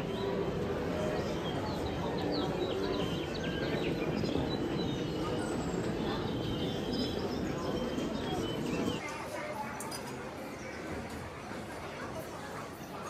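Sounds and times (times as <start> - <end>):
murmur of shoppers: 0.0 - 13.0.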